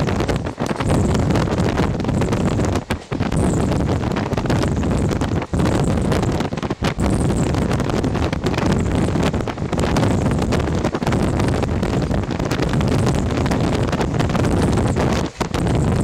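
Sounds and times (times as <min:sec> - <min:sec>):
train rumbling on track: 0:00.0 - 0:16.0
wind buffeting microphone: 0:00.0 - 0:16.0.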